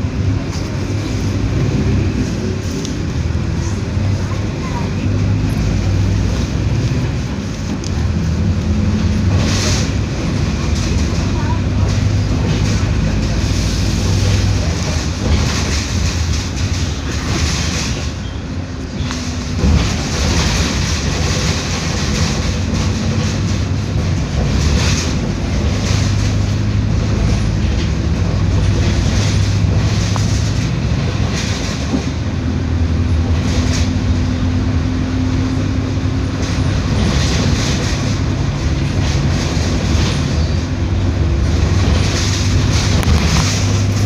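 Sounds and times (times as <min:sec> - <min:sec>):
bus engine drone: 0:00.0 - 0:44.0
road noise: 0:00.0 - 0:44.0.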